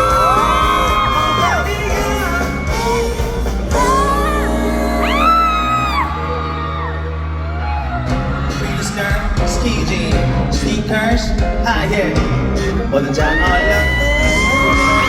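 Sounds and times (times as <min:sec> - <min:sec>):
audience screaming and whooping: 0:00.0 - 0:11.0, 0:12.5 - 0:15.0
live pop-rock band playing: 0:00.0 - 0:15.0.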